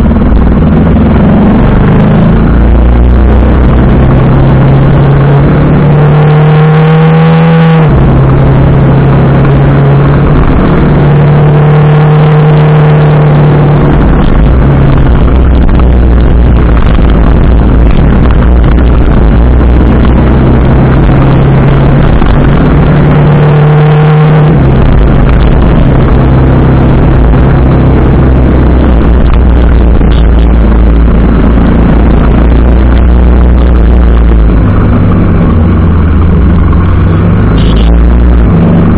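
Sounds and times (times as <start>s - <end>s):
motorcycle engine accelerating: 0.0s - 38.9s
wind rumble on microphone: 0.0s - 38.9s.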